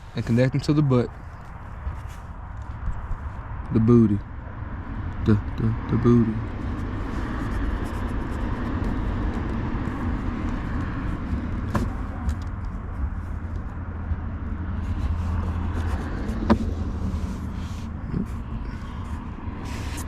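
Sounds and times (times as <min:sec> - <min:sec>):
low vehicle rumble: 0:00.0 - 0:20.0.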